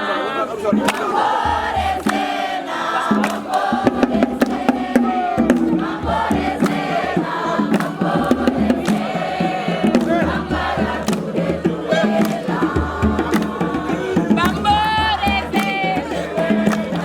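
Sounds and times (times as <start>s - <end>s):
young voices chanting in chorus: 0.0s - 17.0s
sharp percussive hits: 0.6s - 17.0s.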